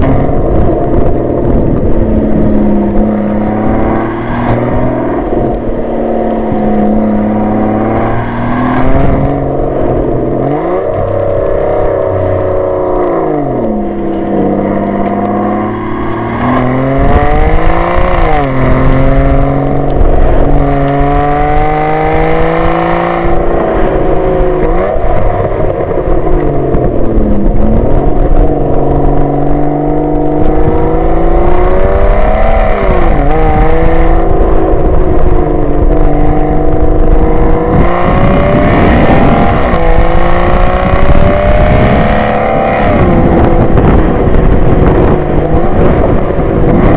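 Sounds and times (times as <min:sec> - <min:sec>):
loud droning tone rising and falling: 0:00.0 - 0:46.9.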